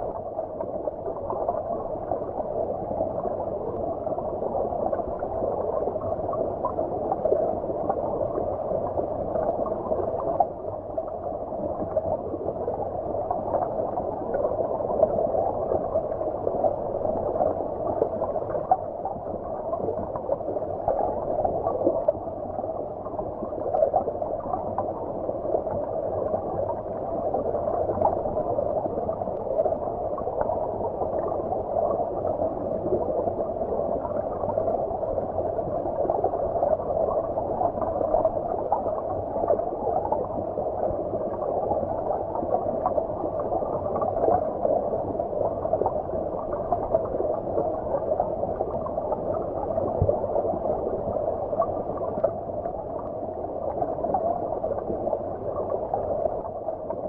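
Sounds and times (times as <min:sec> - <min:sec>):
underwater stream bubbling: 0:00.0 - 0:57.0.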